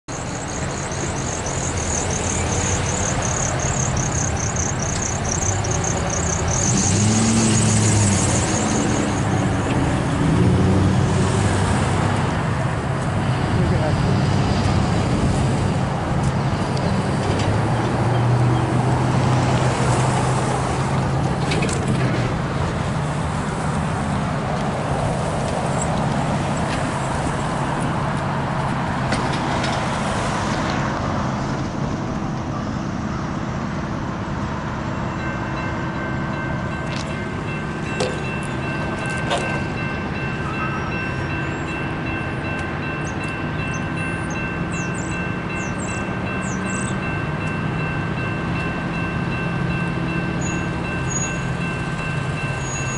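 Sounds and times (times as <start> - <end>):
road traffic passing: 0.1 - 52.9.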